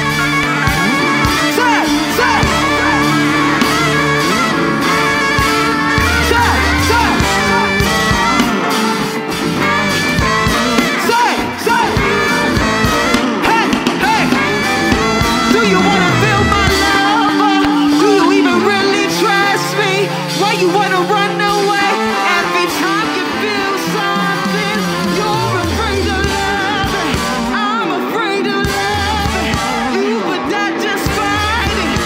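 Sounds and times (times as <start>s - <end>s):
drums: 0.0s - 32.0s
electric guitar: 0.0s - 32.0s
keyboard: 0.0s - 32.0s
person singing into a microphone: 0.0s - 32.0s
saxophone: 0.0s - 32.0s.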